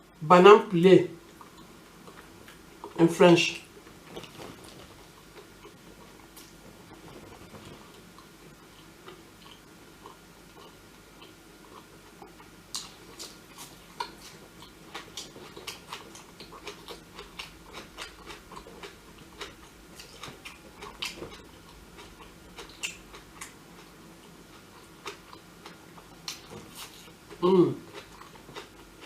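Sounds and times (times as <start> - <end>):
person chewing with mouth clicks: 1.2 - 3.0, 4.0 - 29.0.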